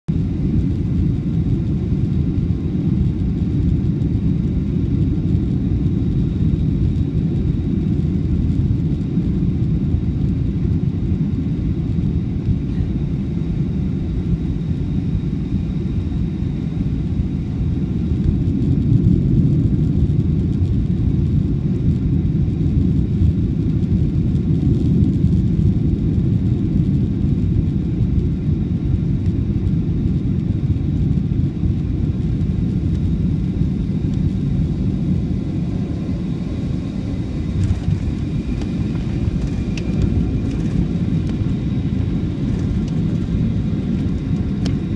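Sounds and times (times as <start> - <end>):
airplane engine roar in cabin: 0.1 - 44.9
faint high whine: 0.2 - 44.9.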